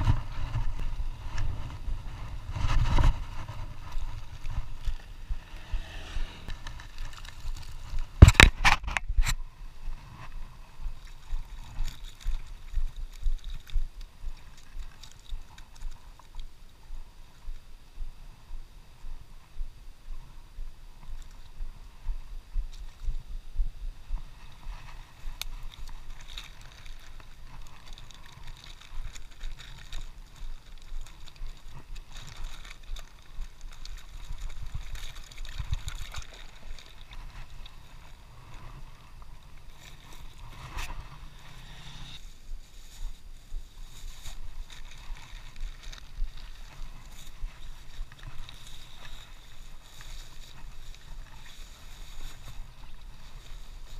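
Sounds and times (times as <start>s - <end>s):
low rumble on microphone: 0.0s - 53.9s.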